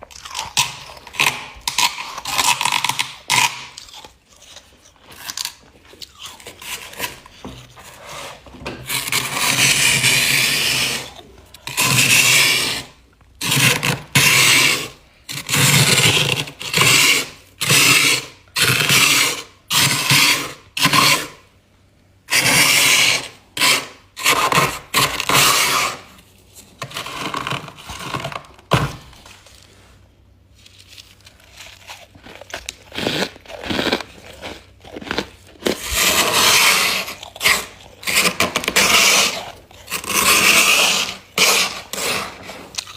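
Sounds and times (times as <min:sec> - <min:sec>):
scraping frost in freezer: 0:06.2 - 0:21.5, 0:22.3 - 0:42.9.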